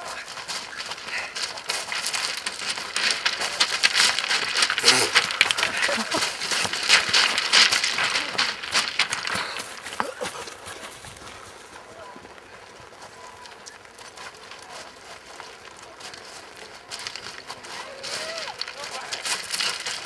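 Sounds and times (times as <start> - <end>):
feet crunching on loose scree: 0.0 - 20.0.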